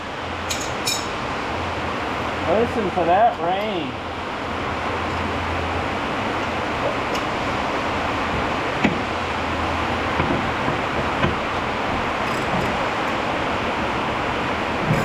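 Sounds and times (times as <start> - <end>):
steady rain falling: 1.2 - 15.0.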